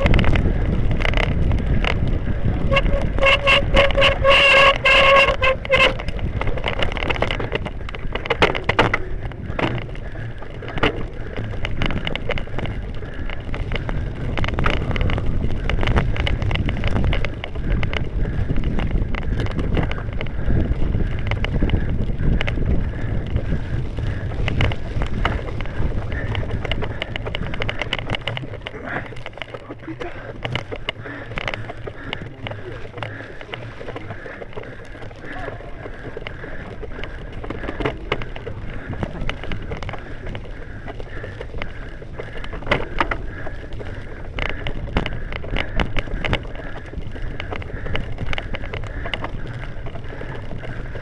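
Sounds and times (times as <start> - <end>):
bike rattling over rough ground: 0.0 - 51.0
wind rumble on microphone: 0.0 - 51.0.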